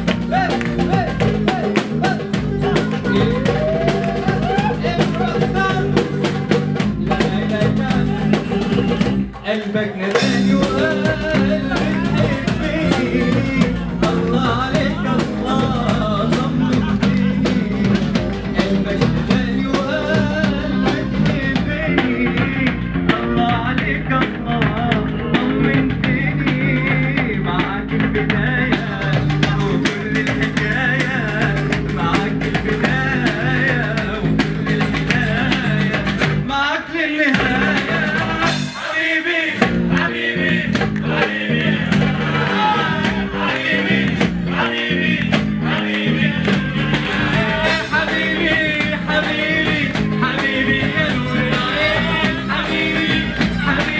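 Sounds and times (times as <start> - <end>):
hand drum beat: 0.0 - 9.5, 10.1 - 36.5, 37.3 - 38.7, 39.6 - 53.9
person singing: 0.0 - 53.9.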